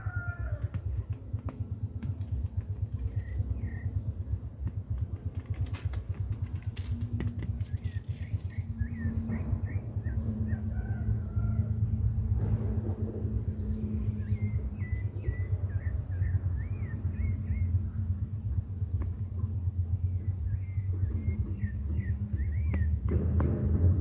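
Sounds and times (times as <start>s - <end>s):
birds chirping: 0.0s - 24.0s
faint pulsing insect: 0.0s - 24.0s
low uneven rumble: 0.0s - 24.0s.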